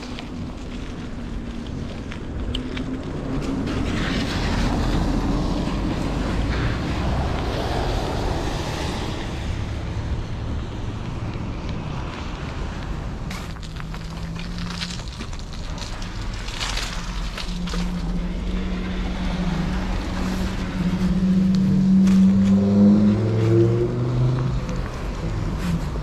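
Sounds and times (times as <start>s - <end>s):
car engines humming: 0.0s - 26.0s.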